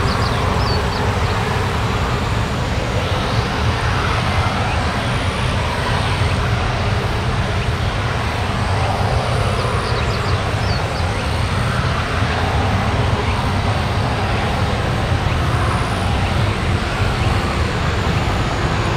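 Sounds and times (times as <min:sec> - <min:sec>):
jet engines running at low power: 0:00.0 - 0:18.9.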